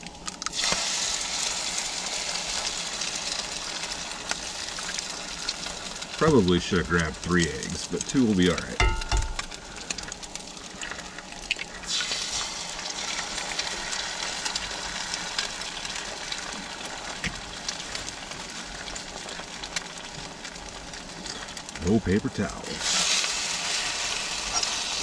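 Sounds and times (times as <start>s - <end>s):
food sizzling in a skillet: 0.0s - 7.5s, 8.2s - 21.9s, 22.6s - 25.0s.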